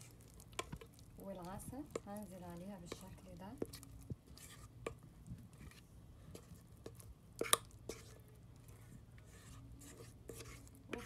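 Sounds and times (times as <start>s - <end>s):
soft squishing of sauce: 0.0s - 11.0s.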